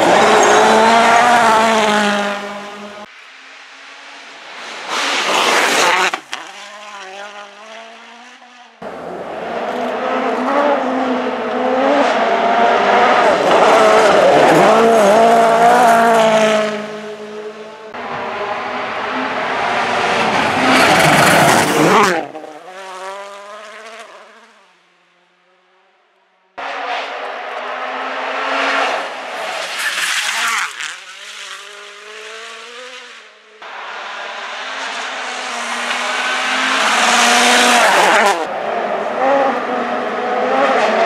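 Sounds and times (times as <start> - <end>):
rally cars passing at speed: 0.0 - 41.0.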